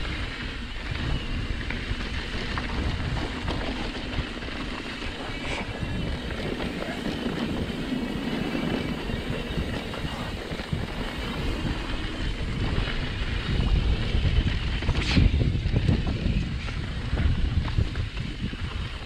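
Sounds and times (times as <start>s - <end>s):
bike rattling: 0.0s - 19.0s
bike tyre rumble on dirt: 0.0s - 19.0s
wind buffeting microphone: 0.0s - 19.0s.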